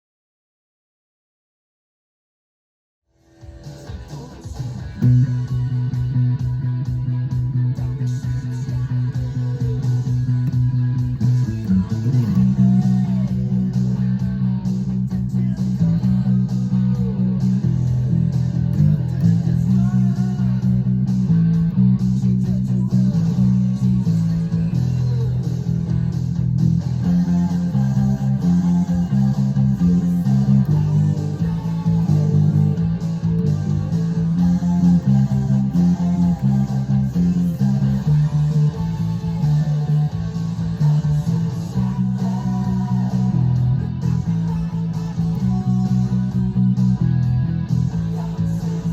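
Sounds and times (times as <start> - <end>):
bass guitar: 3.1 - 48.9
electric guitar riff: 3.2 - 48.9.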